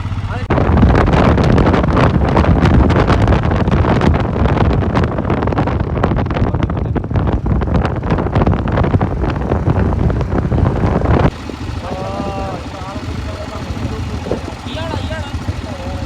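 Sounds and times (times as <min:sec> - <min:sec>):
moving vehicle running noise: 0:00.0 - 0:16.0
wind buffeting microphone: 0:00.0 - 0:16.0.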